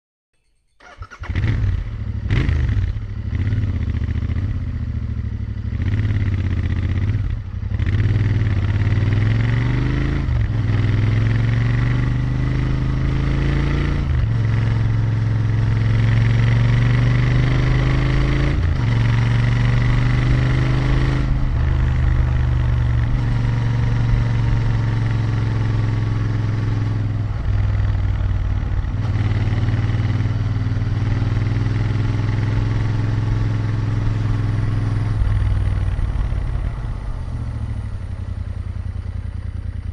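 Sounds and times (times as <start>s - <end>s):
motorcycle engine revving: 0.8s - 39.9s.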